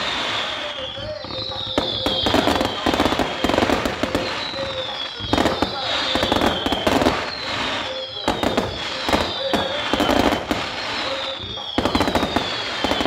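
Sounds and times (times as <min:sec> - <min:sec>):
falling fireworks whistles: 0:00.0 - 0:13.0
fireworks bangs and crackling: 0:00.0 - 0:13.0.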